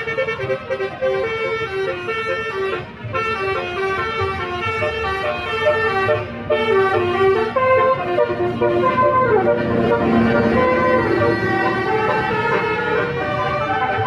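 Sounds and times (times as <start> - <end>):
bus engine running: 0.0 - 14.0
bus horn playing a tune: 0.0 - 14.0.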